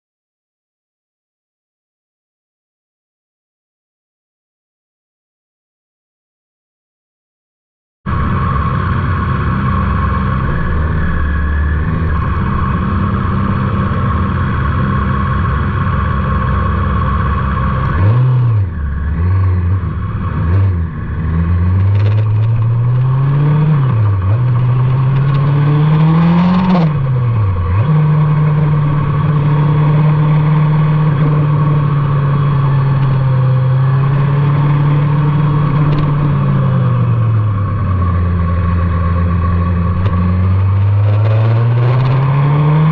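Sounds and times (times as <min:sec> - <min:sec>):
motorcycle engine revving: 0:08.1 - 0:42.9.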